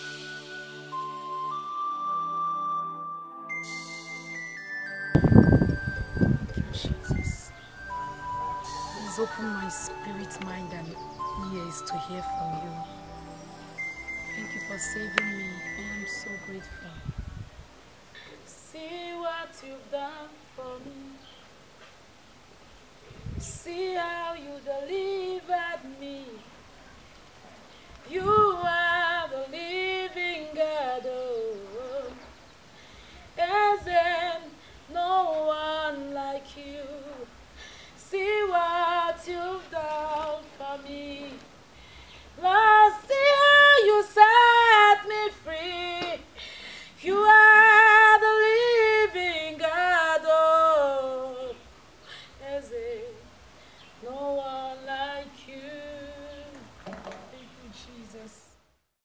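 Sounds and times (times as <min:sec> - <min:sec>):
woman singing unaccompanied: 0:05.0 - 0:17.3, 0:18.4 - 0:21.5, 0:23.3 - 0:26.6, 0:27.9 - 0:32.5, 0:33.3 - 0:58.7.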